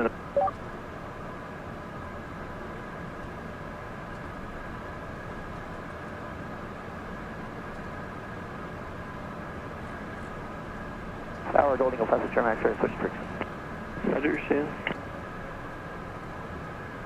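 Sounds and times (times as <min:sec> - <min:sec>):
jet cockpit airflow and engine hum: 0:00.0 - 0:17.0.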